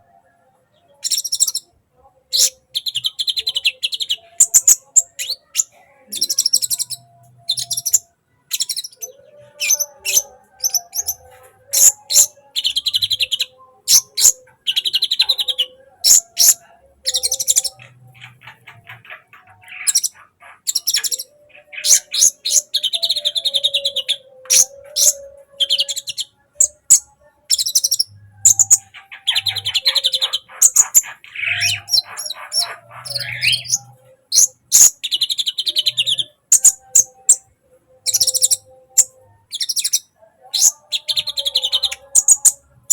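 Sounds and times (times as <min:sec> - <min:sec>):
sunbird singing chattering song: 0:00.8 - 0:01.7, 0:02.3 - 0:42.9.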